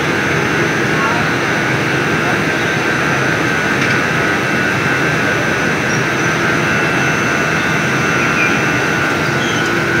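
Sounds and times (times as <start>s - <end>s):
conveyor machine noise: 0.0s - 10.0s.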